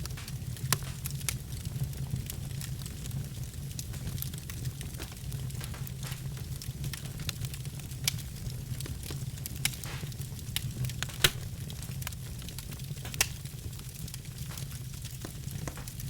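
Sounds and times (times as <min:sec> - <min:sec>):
logs crackling in a fireplace: 0:00.0 - 0:16.0
low rumble of fire: 0:00.0 - 0:16.0
sharp pops of burning wood: 0:00.0 - 0:16.0.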